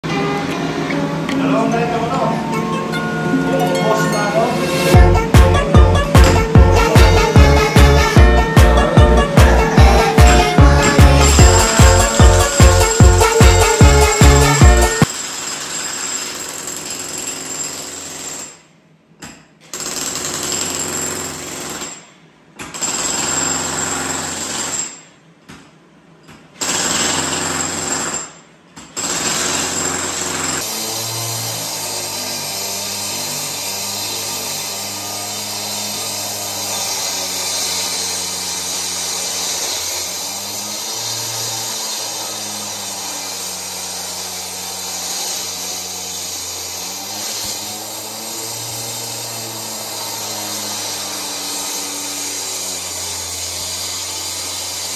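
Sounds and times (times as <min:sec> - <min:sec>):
concrete saw cutting: 0:00.0 - 0:18.5, 0:29.0 - 0:54.9
jackhammer breaking concrete: 0:04.9 - 0:18.7, 0:19.6 - 0:25.0, 0:26.6 - 0:54.9.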